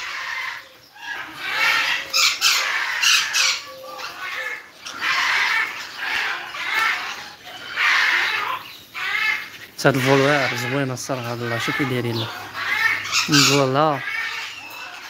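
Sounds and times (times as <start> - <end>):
parrots squawking: 0.0 - 15.0.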